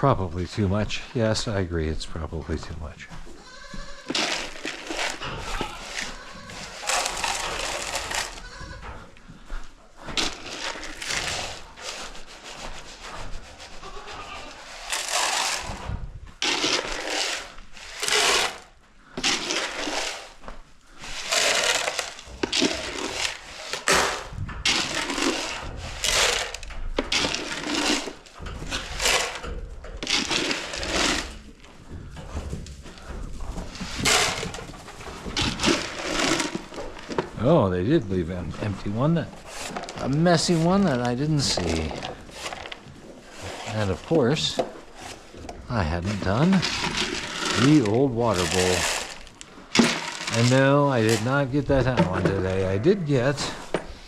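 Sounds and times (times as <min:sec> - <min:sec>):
hay rustling and crunching: 0:04.1 - 0:08.6, 0:10.1 - 0:31.6, 0:33.2 - 0:53.6.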